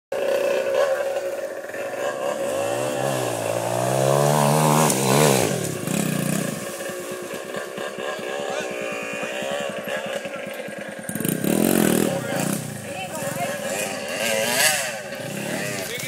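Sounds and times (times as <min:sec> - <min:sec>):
dirt bike engine revving: 0:00.1 - 0:16.0.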